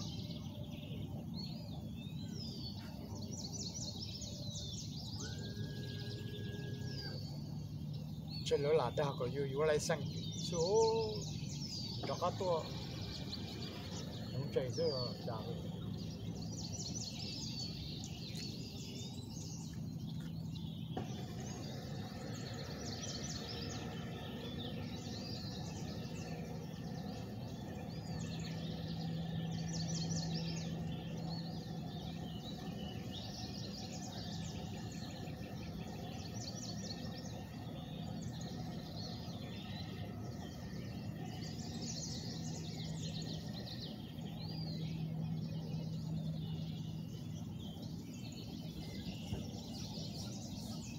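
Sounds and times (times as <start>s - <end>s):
low outdoor hum: 0.0s - 50.9s
songbirds chirping: 0.0s - 50.9s.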